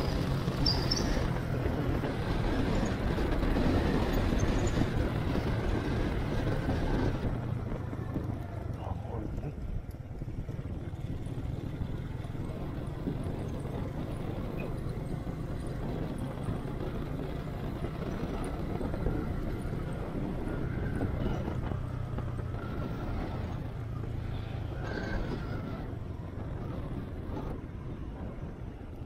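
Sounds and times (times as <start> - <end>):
motorcycle engine cruising: 0.0 - 29.0
road noise: 0.0 - 29.0
wind noise: 0.0 - 29.0.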